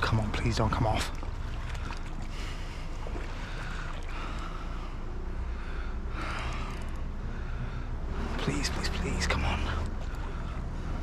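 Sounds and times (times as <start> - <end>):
river water: 0.0 - 11.0.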